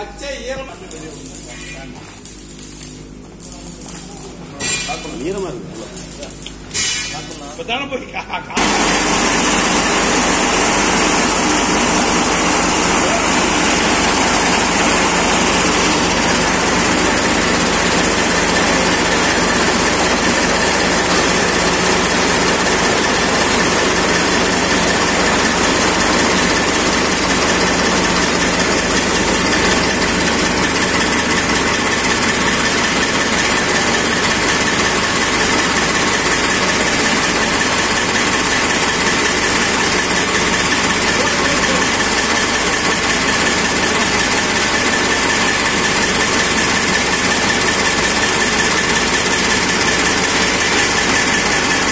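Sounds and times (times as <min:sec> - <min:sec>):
chaff cutter machine running: 0:00.0 - 0:51.9.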